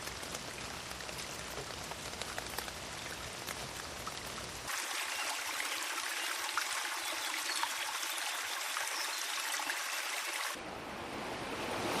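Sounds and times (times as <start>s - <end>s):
running water trickling: 0.0s - 10.6s.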